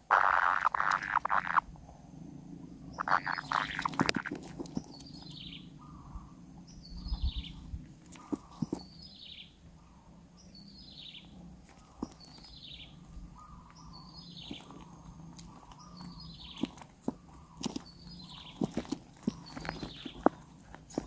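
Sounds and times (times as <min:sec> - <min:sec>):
bird nestlings calling: 0:00.0 - 0:01.6, 0:02.9 - 0:09.5, 0:10.4 - 0:21.0.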